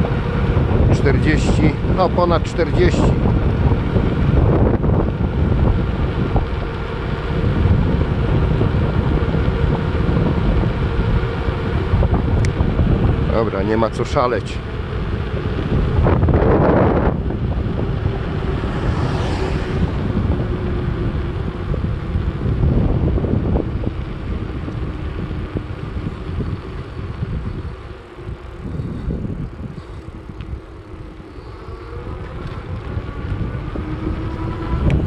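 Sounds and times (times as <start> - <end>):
tyre and road rumble: 0.0 - 35.0
wind buffeting microphone: 0.0 - 35.0.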